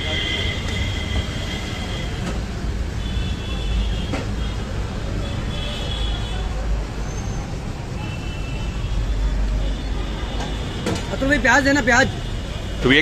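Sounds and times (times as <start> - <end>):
low rumble of road vehicles: 0.0 - 13.0.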